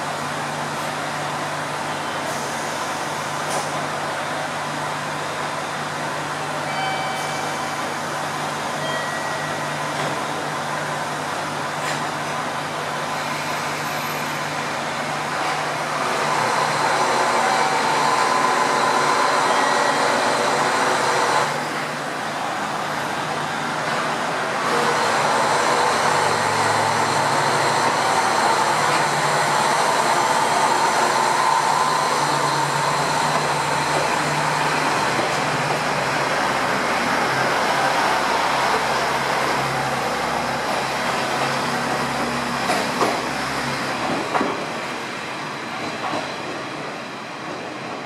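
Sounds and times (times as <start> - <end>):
diesel railcar engine running hard: 0.0 - 48.0.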